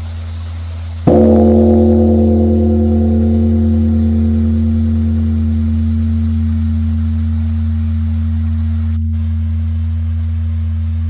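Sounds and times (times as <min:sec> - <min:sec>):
low hum: 0:00.1 - 0:11.0
large temple bell ringing: 0:01.1 - 0:11.0.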